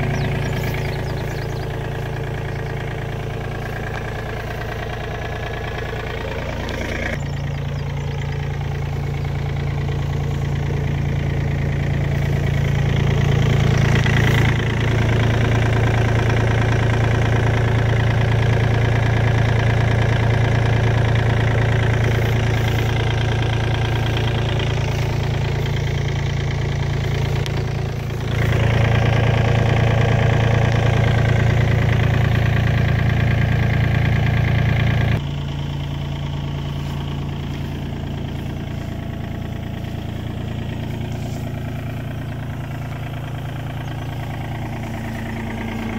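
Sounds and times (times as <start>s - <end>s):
excavator diesel engine idling: 0.0s - 45.9s.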